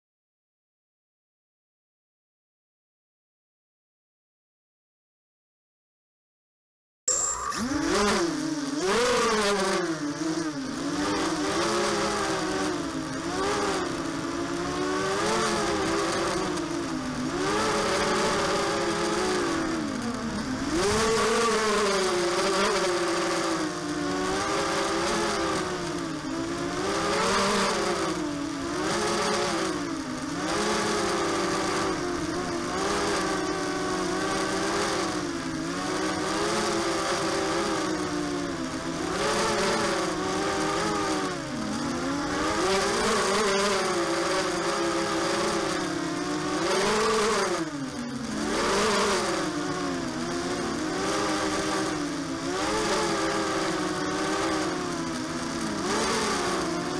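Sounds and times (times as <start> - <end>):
quadcopter motors whining: 7.1 - 56.9.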